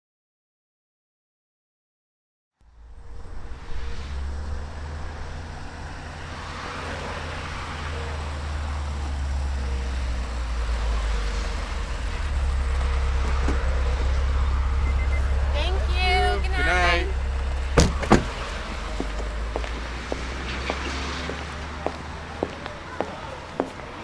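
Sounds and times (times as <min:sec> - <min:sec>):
rumble of passing vehicles: 0:02.6 - 0:24.0.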